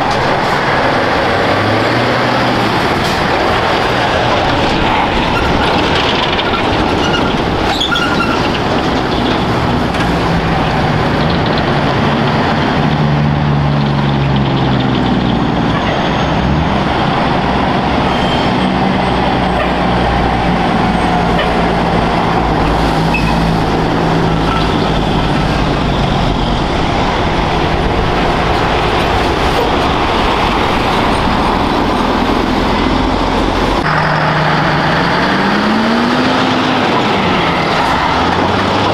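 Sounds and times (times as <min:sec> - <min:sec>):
diesel trucks driving past: 0:00.0 - 0:38.9
tyre and road noise: 0:00.0 - 0:38.9.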